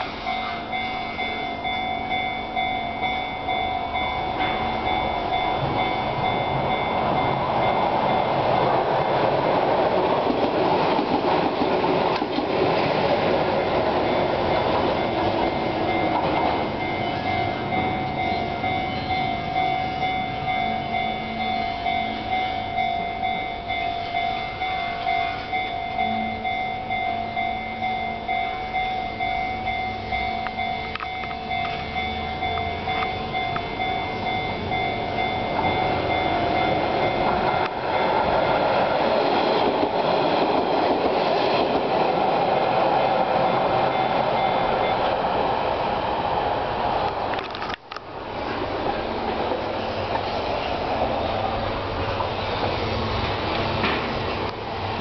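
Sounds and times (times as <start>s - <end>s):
level crossing warning bell: 0.0s - 48.0s
train rumble and rail noise: 0.0s - 55.0s.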